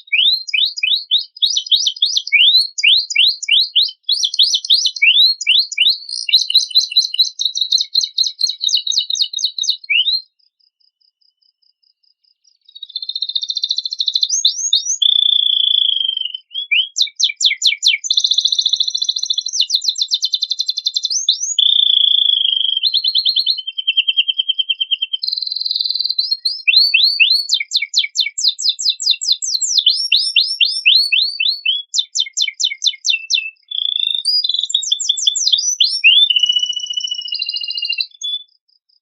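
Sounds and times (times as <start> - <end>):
canary singing trills: 0.0 - 10.4, 12.4 - 38.6.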